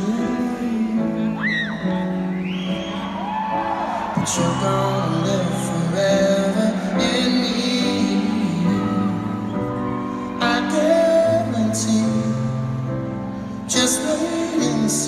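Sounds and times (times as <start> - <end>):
man singing: 0.0 - 2.0, 4.2 - 15.0
piano chords: 0.0 - 15.0.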